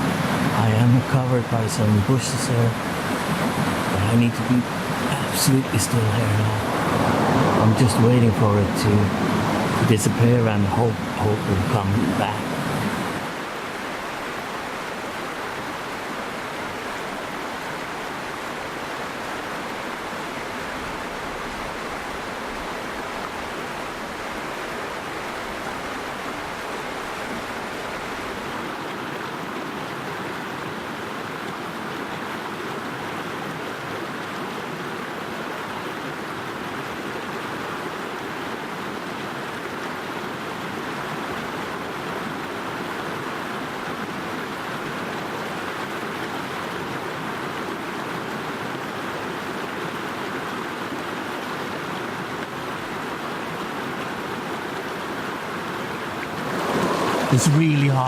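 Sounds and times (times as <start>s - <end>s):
river stream rushing: 0.0s - 58.0s.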